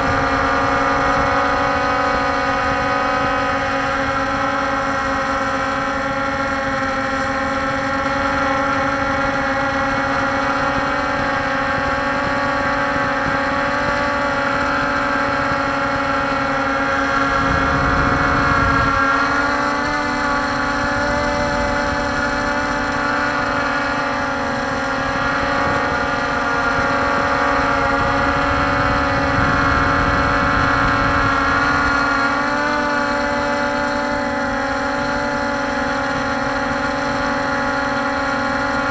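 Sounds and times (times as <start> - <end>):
drone motors humming: 0.0 - 38.9.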